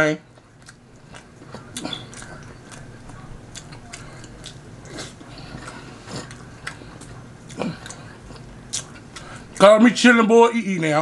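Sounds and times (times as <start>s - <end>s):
person chewing with mouth clicks: 0.4s - 9.6s.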